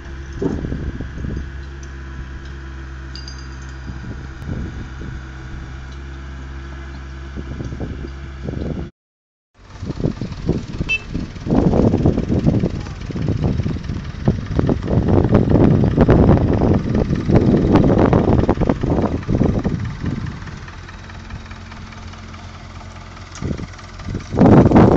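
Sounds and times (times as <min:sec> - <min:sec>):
engine humming steadily: 0:00.0 - 0:08.9, 0:09.6 - 0:24.9
wind buffeting microphone: 0:00.3 - 0:01.6, 0:03.8 - 0:05.8, 0:07.3 - 0:08.9, 0:09.7 - 0:24.9.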